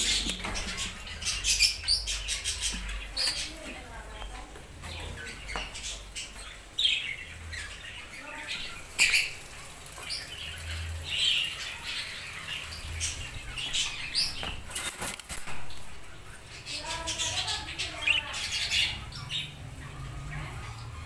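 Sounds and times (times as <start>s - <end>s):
budgerigars chirping and squawking: 0.0s - 21.0s.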